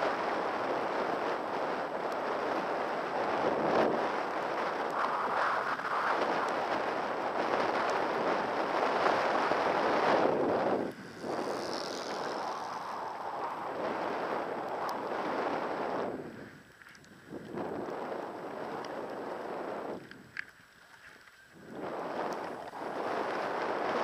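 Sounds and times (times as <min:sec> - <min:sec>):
skis sliding over snow: 0:00.0 - 0:24.0
wind rushing over microphone: 0:00.0 - 0:24.0.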